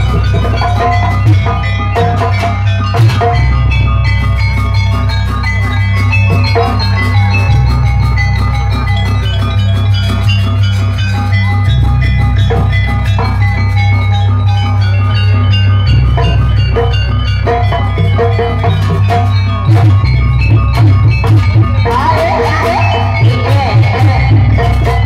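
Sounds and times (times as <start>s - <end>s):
deep held bass tone: 0.0s - 25.0s
fast steady drumming: 0.0s - 25.0s
ringing metallophone notes: 0.0s - 25.0s.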